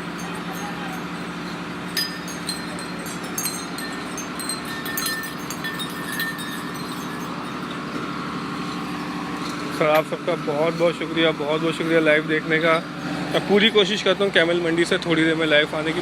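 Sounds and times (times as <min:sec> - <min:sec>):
steady droning hum: 0:00.0 - 0:16.0.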